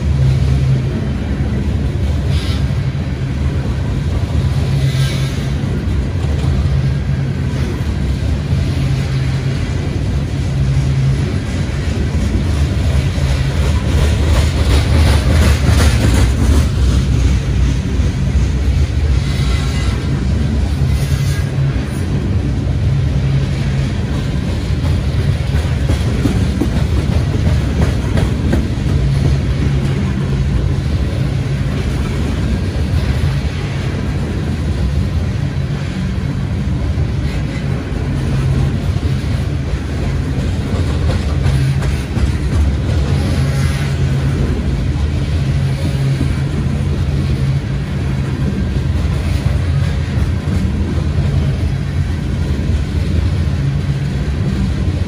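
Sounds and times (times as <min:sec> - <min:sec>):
freight train wheels clickety-clack: 0:00.0 - 0:55.0.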